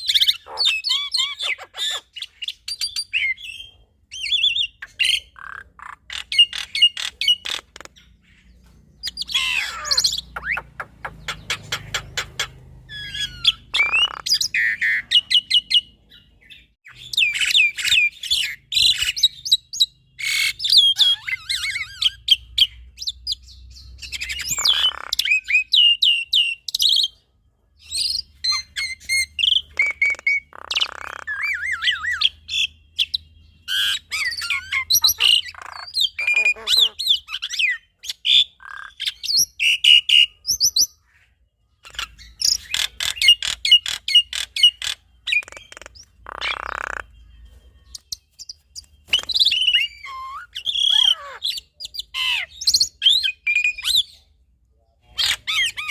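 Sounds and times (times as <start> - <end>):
harsh rasping bird calls: 0.0 - 27.2, 27.8 - 55.9
birds chirping and whistling: 0.0 - 54.4, 55.0 - 55.9.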